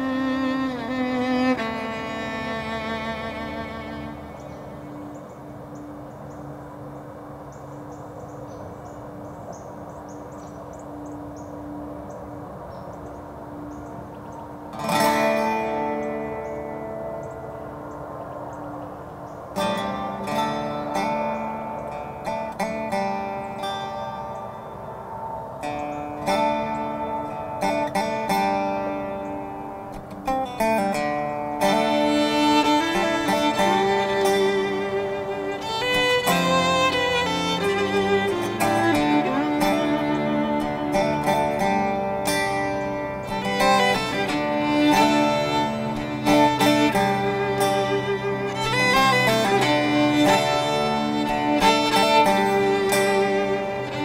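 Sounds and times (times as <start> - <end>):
plucked string notes: 0.0 - 6.9, 14.7 - 18.6, 19.6 - 54.0
faint steady hum: 0.0 - 54.0.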